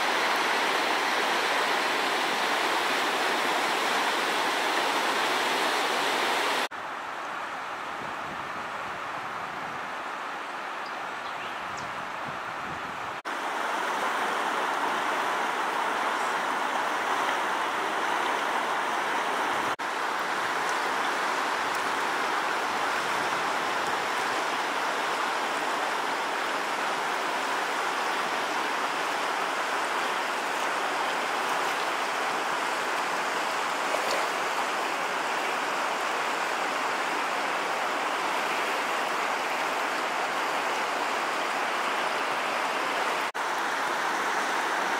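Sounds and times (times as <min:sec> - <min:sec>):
river rushing over rapids: 0:00.0 - 0:44.9.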